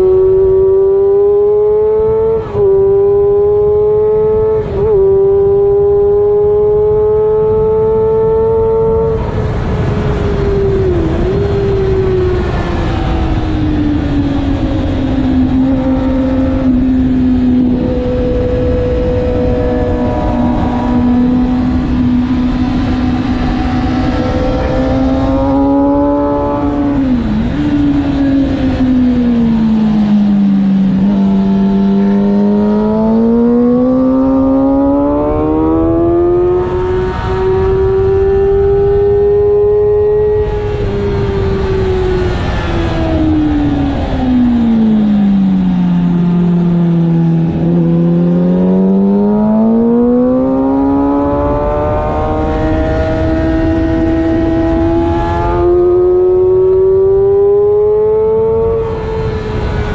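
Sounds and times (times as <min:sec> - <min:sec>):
motorcycle engine running hard: 0:00.0 - 0:59.9
wind rushing over microphone: 0:00.0 - 0:59.9.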